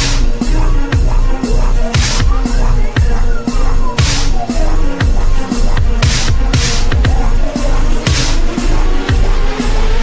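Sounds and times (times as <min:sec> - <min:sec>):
dubstep music with heavy beat: 0:00.0 - 0:10.0.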